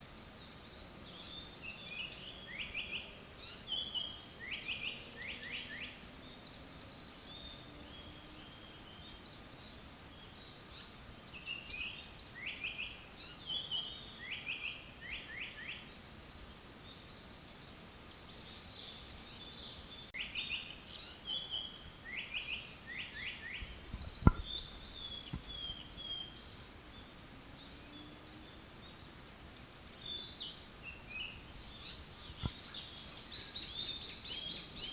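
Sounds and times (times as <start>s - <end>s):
steady background hiss: 0.0s - 34.9s.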